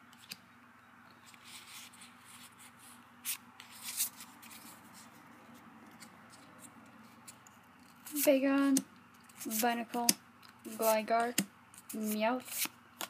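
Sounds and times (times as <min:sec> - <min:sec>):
trading cards shuffling: 0:01.1 - 0:13.0.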